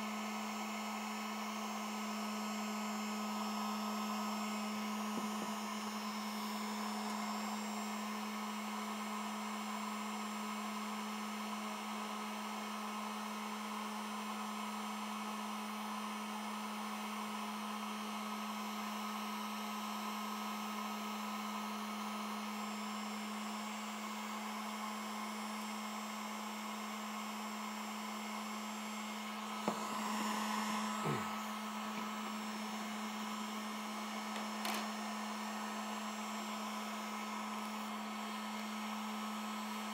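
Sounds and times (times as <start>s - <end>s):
heat gun fan humming: 0.0s - 13.5s, 15.4s - 39.9s.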